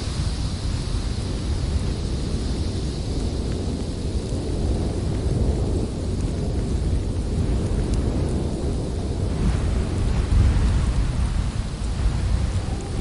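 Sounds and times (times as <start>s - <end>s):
blizzard wind gusting: 0.0s - 13.0s.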